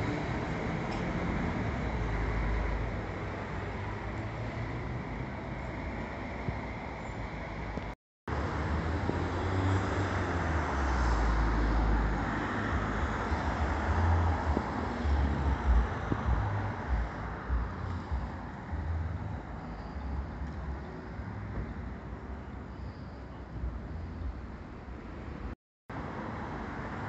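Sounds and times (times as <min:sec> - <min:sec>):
vehicle engine rumble: 0:00.0 - 0:25.6
road noise: 0:00.0 - 0:27.0.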